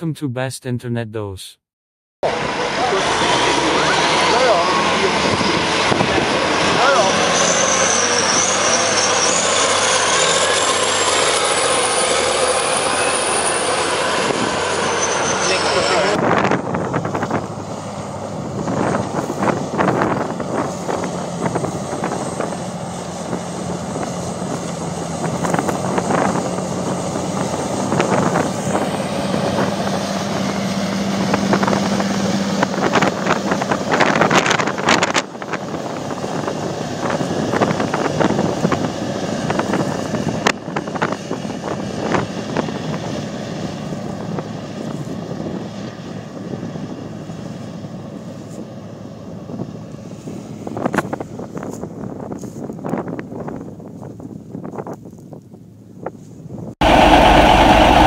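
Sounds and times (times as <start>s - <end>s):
tractor diesel engine drone: 2.2s - 52.5s, 56.8s - 58.0s
wind gusting on microphone: 2.3s - 58.0s.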